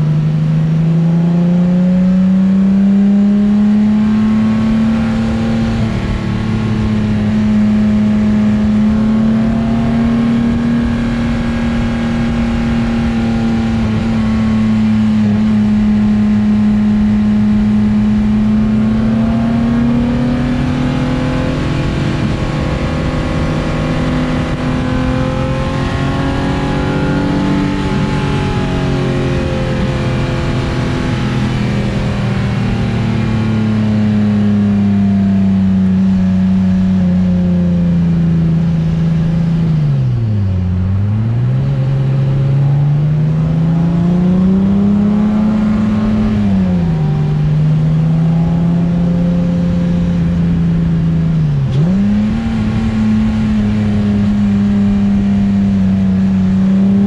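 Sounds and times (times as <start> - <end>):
car engine at part throttle: 0.0 - 57.0.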